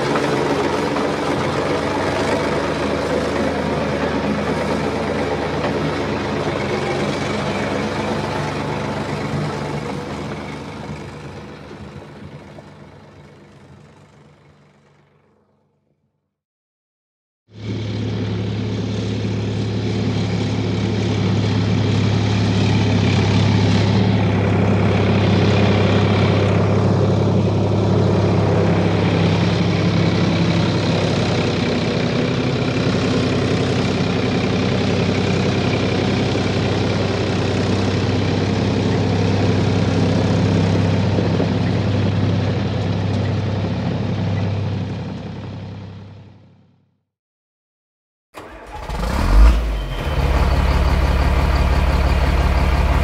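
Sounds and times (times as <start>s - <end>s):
heavy engine humming: 0.0s - 15.9s, 17.5s - 46.9s, 48.4s - 53.0s.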